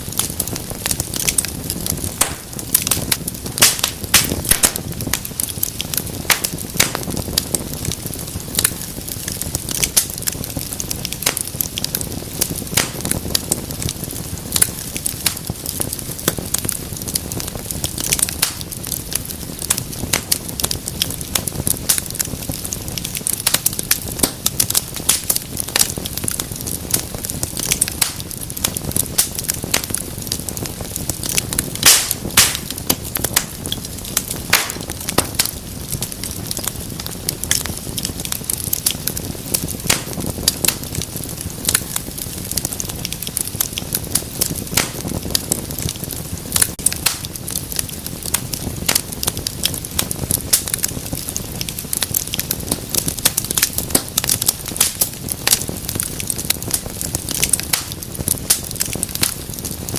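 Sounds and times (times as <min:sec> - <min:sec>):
fire crackling with sharp pops: 0:00.0 - 0:59.9
low rumble of flames: 0:00.0 - 0:59.9.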